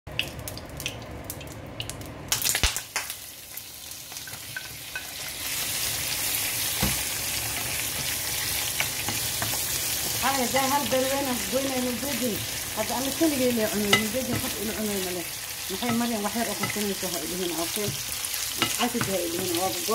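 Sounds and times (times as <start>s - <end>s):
food sizzling in a pan: 2.4s - 19.9s.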